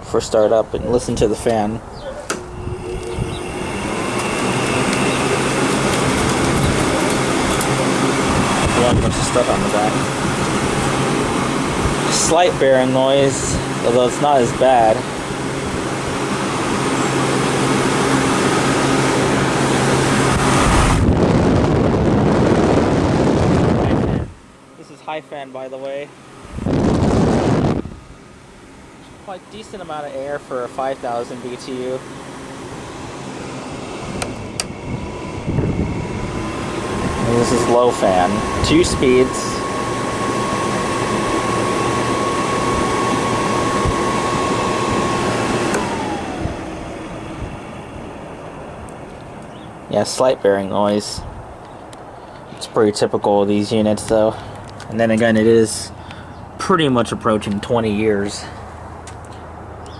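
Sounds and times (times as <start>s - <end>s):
air conditioner fan running: 0.0s - 59.9s
fan motor bearing noise: 0.0s - 59.9s.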